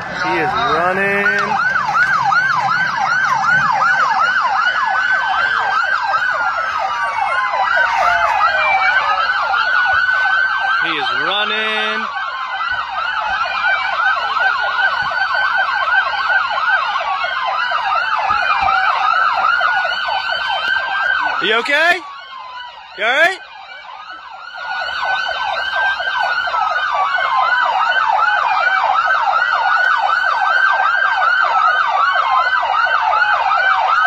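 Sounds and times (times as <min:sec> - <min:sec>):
lower sweeping siren tone: 0:00.0 - 0:34.0
police sirens yelping and wailing: 0:00.0 - 0:34.0.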